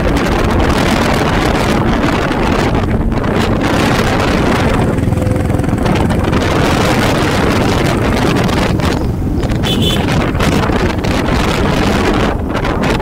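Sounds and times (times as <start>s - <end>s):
wind buffeting microphone: 0.0s - 13.0s
motorcycle engine running: 0.6s - 13.0s.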